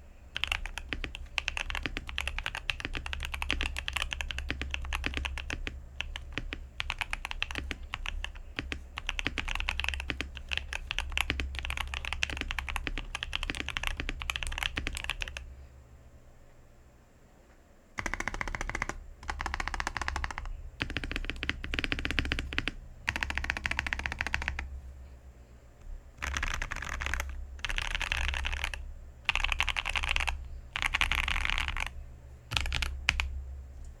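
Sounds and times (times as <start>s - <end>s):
rapid typing on mechanical keyboard: 0.3s - 15.5s, 18.0s - 24.7s, 26.2s - 33.3s.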